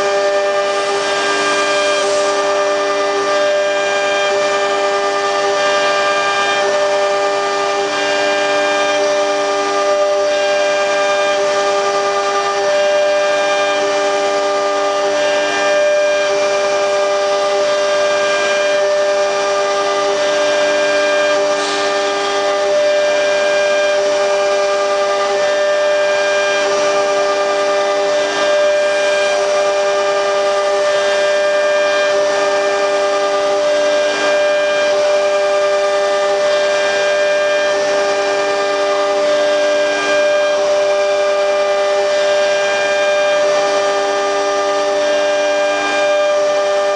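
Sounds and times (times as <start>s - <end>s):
cnc router whining: 0.0s - 46.9s.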